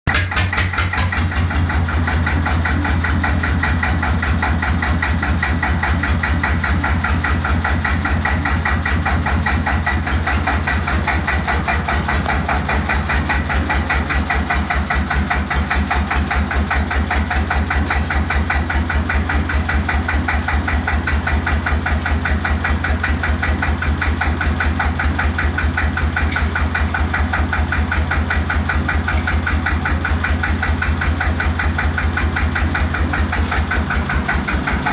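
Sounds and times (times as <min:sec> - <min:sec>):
tractor engine idling: 0:00.1 - 0:34.9.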